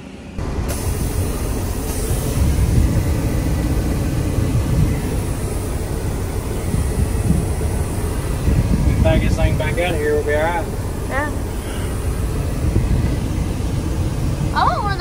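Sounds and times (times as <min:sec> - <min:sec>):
heavy truck rumble and road noise: 0:00.0 - 0:15.0.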